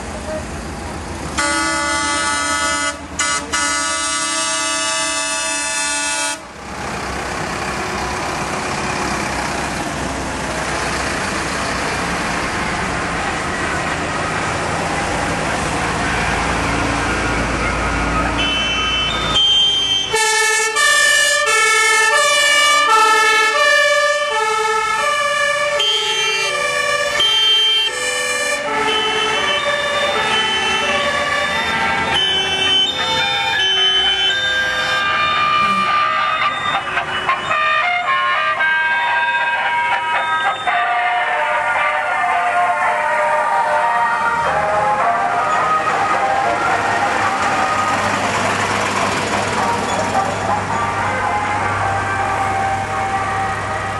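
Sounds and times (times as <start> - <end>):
truck engine rumble: 0.0 - 53.9
two-tone sirens: 1.3 - 6.6, 8.0 - 53.9.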